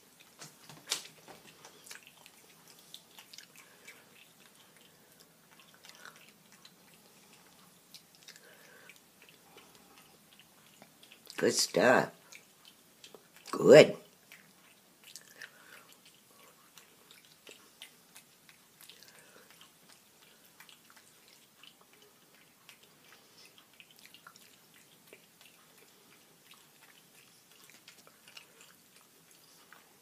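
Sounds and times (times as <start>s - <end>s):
monkey chewing clicks and smacks: 0.0s - 30.0s.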